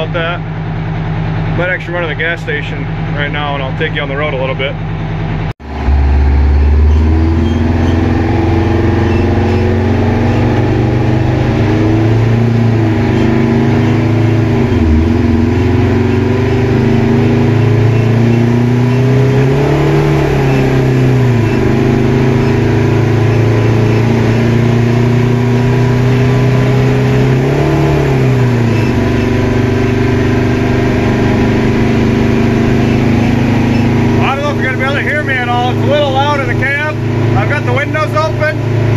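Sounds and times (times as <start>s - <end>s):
diesel truck engine accelerating: 0.0s - 38.9s.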